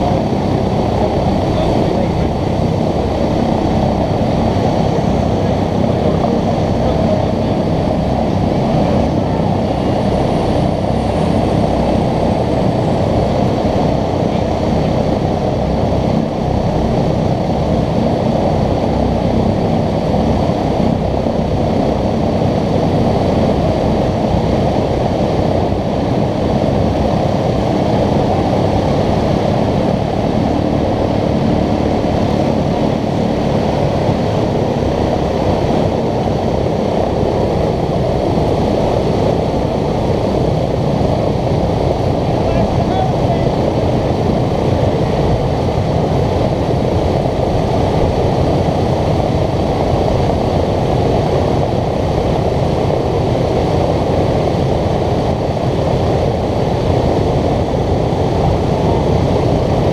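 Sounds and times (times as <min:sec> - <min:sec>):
radial aircraft engines droning: 0:00.0 - 0:59.9.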